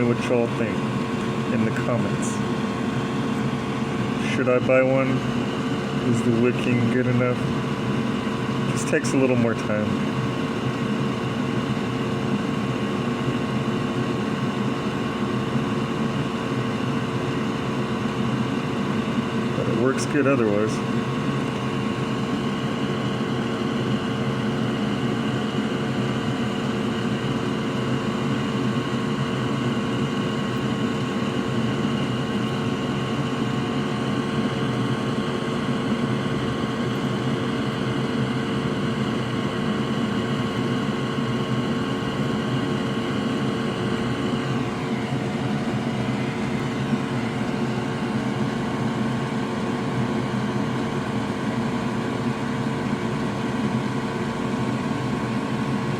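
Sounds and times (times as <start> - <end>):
electric fan humming: 0.0 - 55.9.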